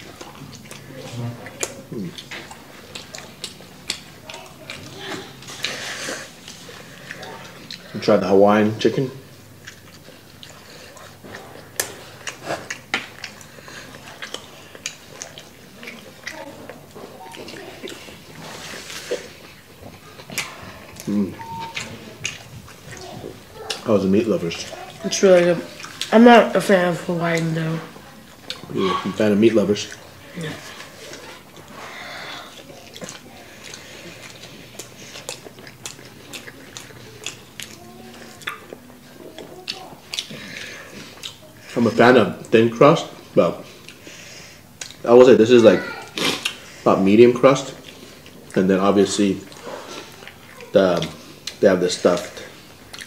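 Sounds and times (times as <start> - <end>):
person chewing pizza: 0.0 - 53.0.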